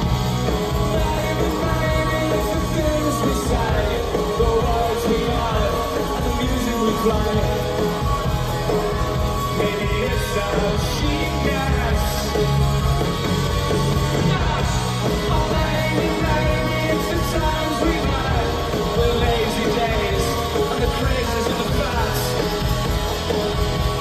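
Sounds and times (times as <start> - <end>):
person singing: 0.0 - 24.0
rock band playing live: 0.0 - 24.0.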